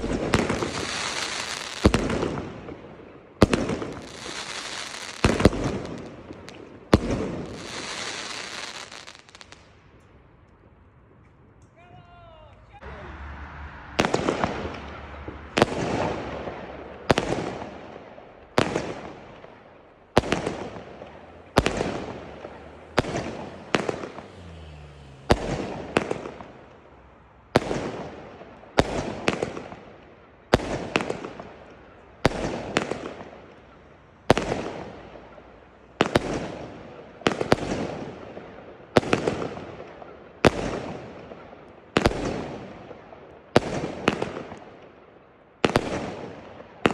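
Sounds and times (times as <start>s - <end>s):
fireworks exploding: 0.0s - 11.5s, 12.8s - 46.9s.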